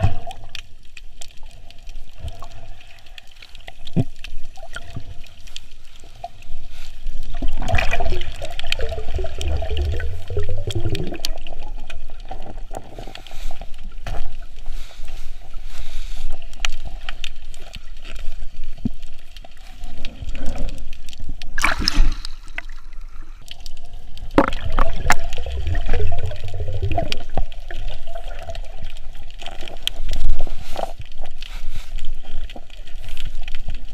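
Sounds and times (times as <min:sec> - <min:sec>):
water bubbling: 0:00.0 - 0:14.6, 0:16.8 - 0:31.4
water sloshing and gurgling: 0:00.0 - 0:33.9.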